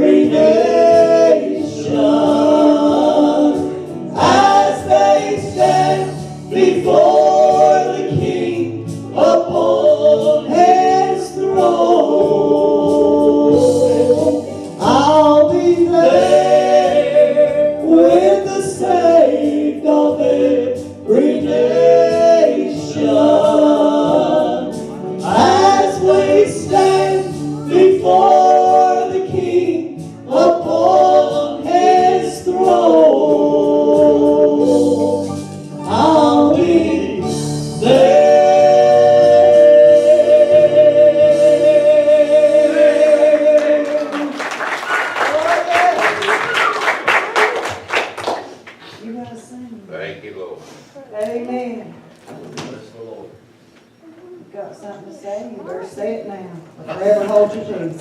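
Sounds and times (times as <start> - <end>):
group gospel singing: 0.0 - 48.7.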